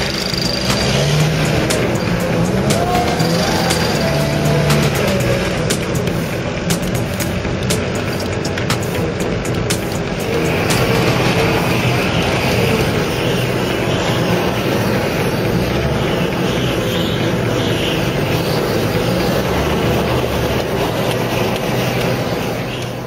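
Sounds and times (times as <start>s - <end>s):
construction machinery engines: 0.0s - 23.0s.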